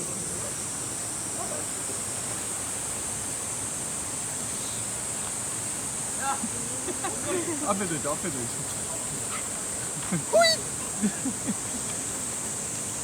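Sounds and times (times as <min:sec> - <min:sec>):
stream rushing: 0:01.8 - 0:13.0.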